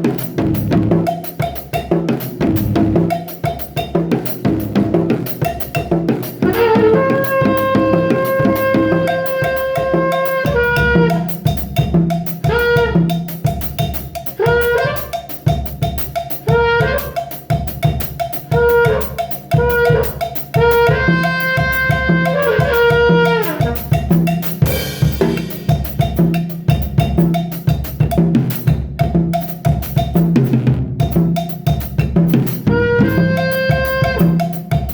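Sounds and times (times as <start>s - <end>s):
drum kit beat: 0.0s - 34.9s.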